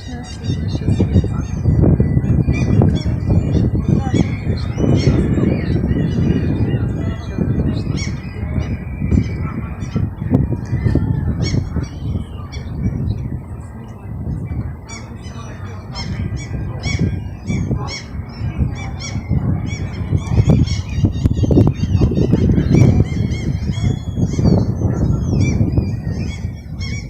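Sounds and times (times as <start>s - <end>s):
birds honking: 0.0s - 10.2s, 14.8s - 27.0s
low uneven rumble: 0.0s - 27.0s.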